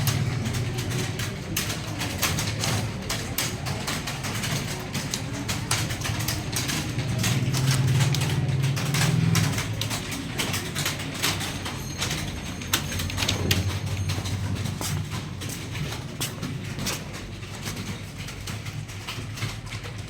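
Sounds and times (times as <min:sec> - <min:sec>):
keyboard typing: 0:00.0 - 0:20.0.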